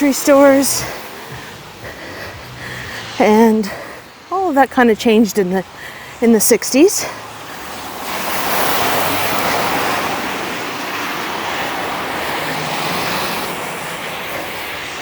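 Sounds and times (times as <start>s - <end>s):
car tyres hissing on road: 0.0s - 4.7s, 5.6s - 15.0s
faint engine hum: 0.0s - 15.0s.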